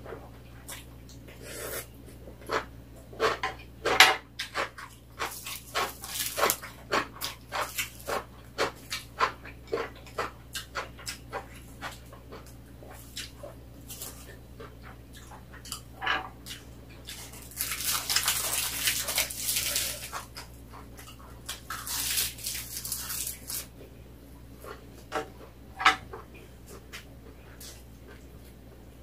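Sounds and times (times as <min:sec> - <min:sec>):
person chewing: 0:00.1 - 0:03.4, 0:04.4 - 0:23.8, 0:24.5 - 0:25.6, 0:26.2 - 0:28.6.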